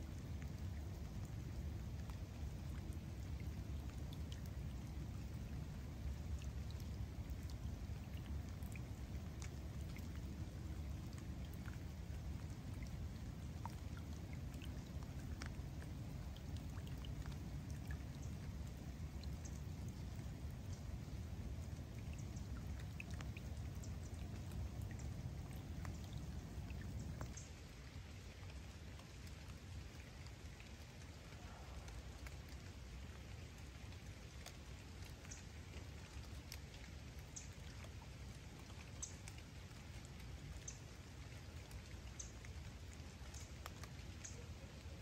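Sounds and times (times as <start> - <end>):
rain falling on water: 0.0 - 45.0.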